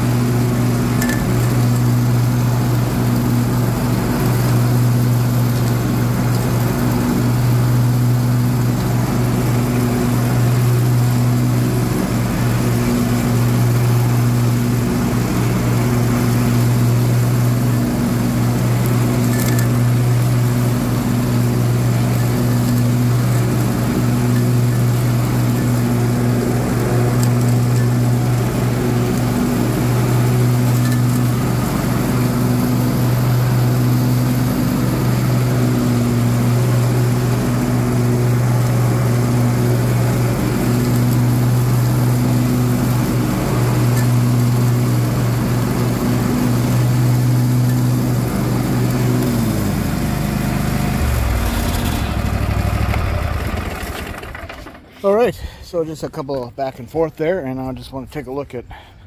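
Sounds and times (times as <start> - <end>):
lawn tractor engine mowing: 0.0 - 58.9.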